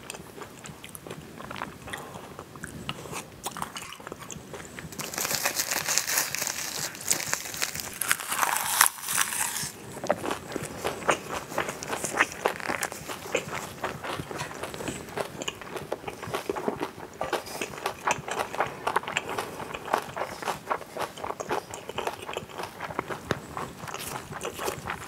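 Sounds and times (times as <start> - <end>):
wet chewing crunches: 0.0 - 25.0.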